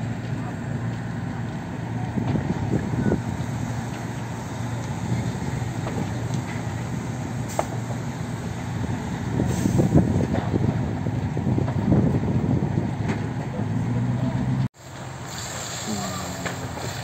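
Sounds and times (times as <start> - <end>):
fire engine motor droning: 0.0 - 17.0.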